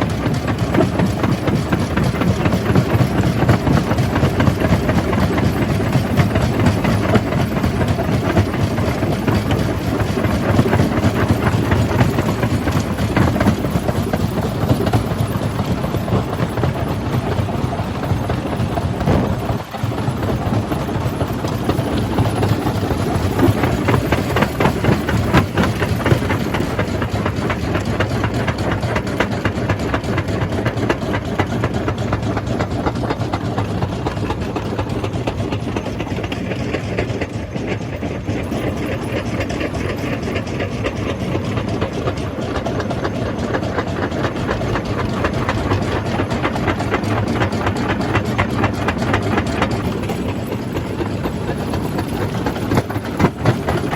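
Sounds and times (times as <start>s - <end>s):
deep machine rumble: 0.0s - 53.9s.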